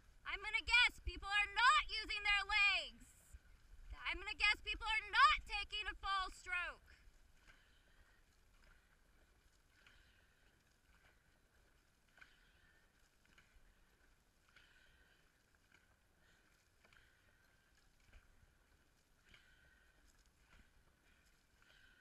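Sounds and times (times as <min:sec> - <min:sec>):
paddles splashing in water: 0:03.3 - 0:22.0.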